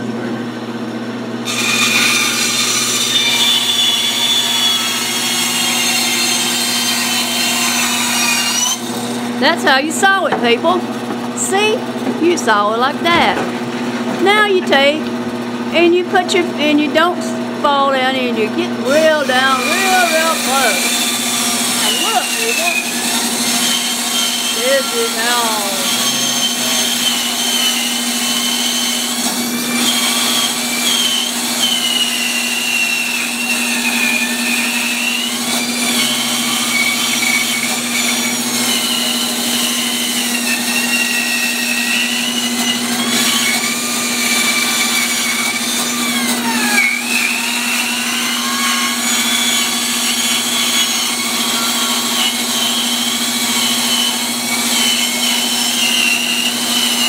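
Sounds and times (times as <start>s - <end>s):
bandsaw cutting wood: 1.4s - 12.2s, 12.8s - 13.4s, 18.2s - 57.0s.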